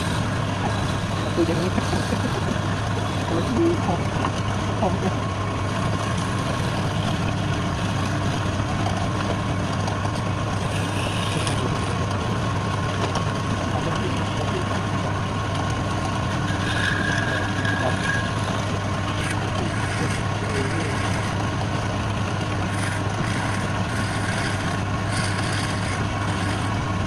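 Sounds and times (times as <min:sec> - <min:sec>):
high whine: 0:00.0 - 0:27.0
wood lathe motor hum: 0:00.0 - 0:27.0.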